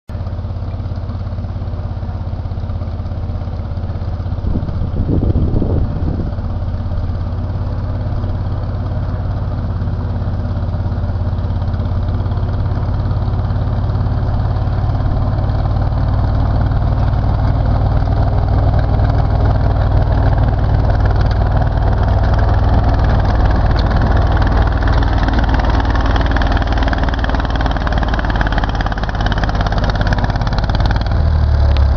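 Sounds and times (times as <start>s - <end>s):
vehicle engine running: 0.1s - 31.9s.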